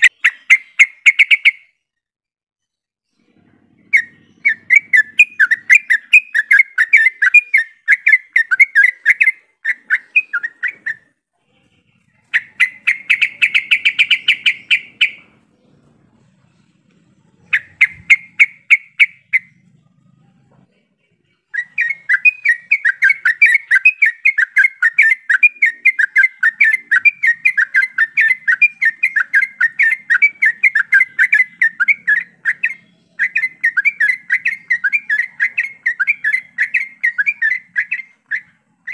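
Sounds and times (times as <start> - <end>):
bulbuls chattering and singing: 3.2 - 38.9.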